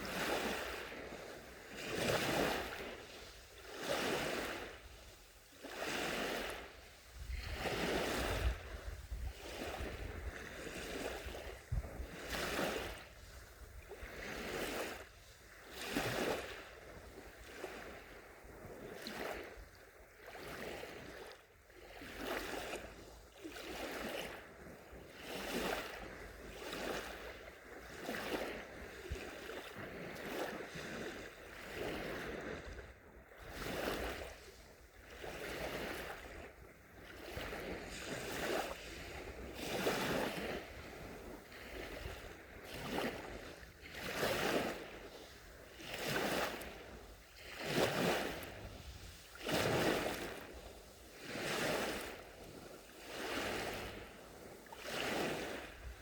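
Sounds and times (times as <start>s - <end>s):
sea waves lapping on shore: 0.0s - 56.0s.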